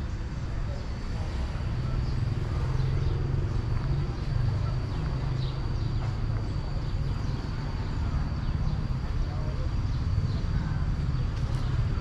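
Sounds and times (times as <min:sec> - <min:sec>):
birds chirping: 0:00.0 - 0:12.0
low rumble of distant traffic: 0:00.0 - 0:12.0.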